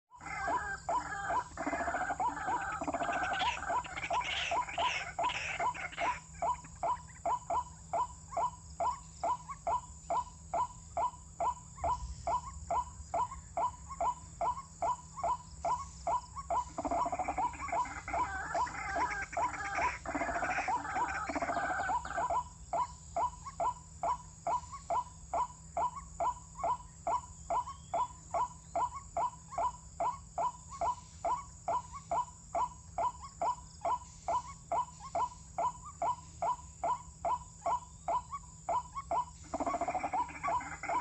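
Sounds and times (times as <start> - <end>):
bird repeated short calls: 0.1 - 10.3, 11.8 - 22.5, 25.8 - 41.0
overlapping bird calls: 0.1 - 41.0.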